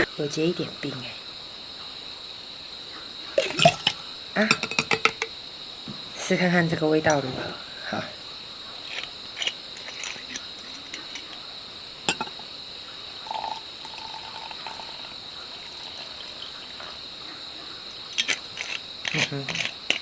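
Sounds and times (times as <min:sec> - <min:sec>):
insect chirring: 0:00.0 - 0:20.0.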